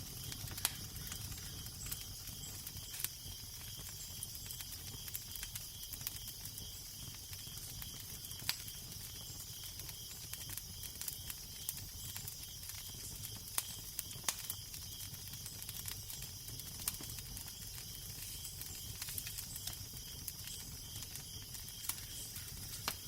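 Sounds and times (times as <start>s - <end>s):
fire crackling and popping: 0.0s - 23.0s.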